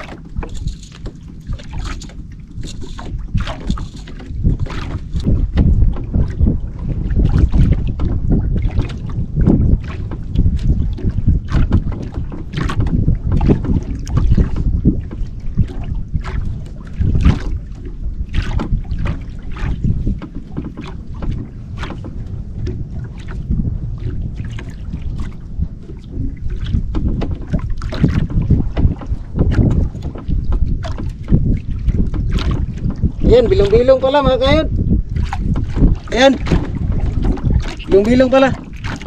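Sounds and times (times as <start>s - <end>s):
splashes and knocks: 0.0s - 39.0s
water lapping against hull: 0.0s - 39.0s
wind buffeting microphone: 0.0s - 39.0s.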